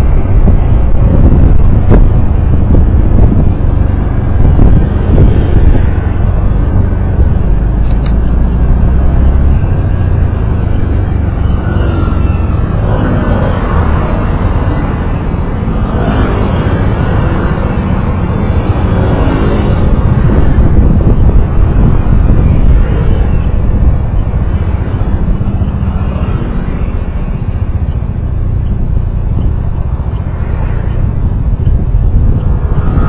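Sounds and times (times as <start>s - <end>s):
vehicle engine rumbling while driving: 0.0s - 33.0s.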